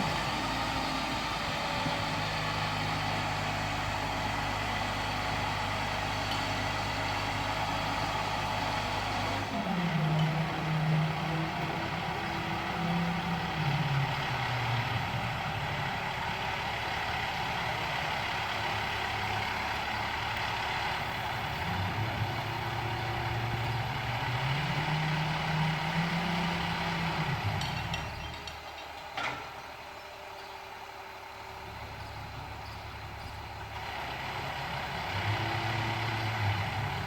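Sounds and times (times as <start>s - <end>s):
heavy truck engine running: 0.0s - 37.0s.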